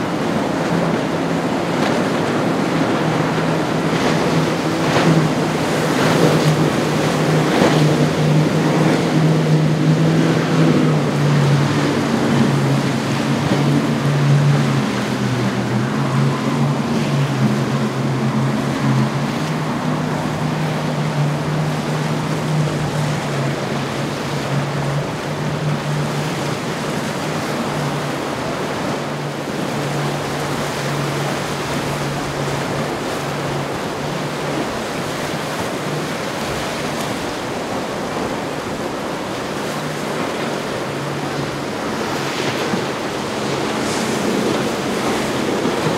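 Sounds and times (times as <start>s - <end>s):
motorboat engine drone: 0.0s - 45.9s
surf and rough water rushing: 0.0s - 45.9s
wind on microphone: 0.0s - 45.9s.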